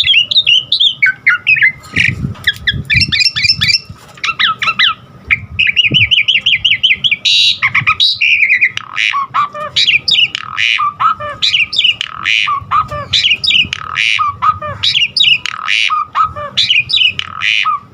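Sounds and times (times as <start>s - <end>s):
starling singing varied song: 0.0s - 17.9s.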